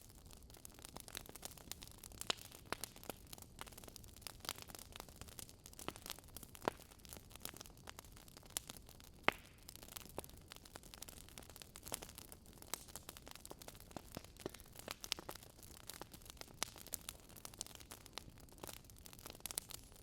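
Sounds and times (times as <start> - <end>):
logs crackling in a fireplace: 0.0 - 20.0.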